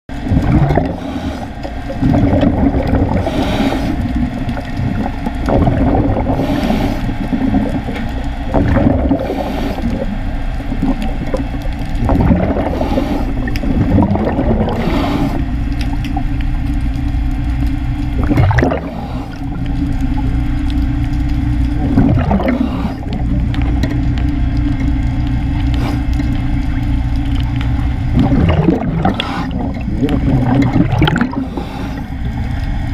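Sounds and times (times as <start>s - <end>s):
bubbles gurgling: 0.1s - 32.9s
low underwater rumble: 0.1s - 32.9s
diver breathing underwater: 0.3s - 16.8s, 18.2s - 20.2s, 21.4s - 23.9s, 25.5s - 26.6s, 27.3s - 32.7s.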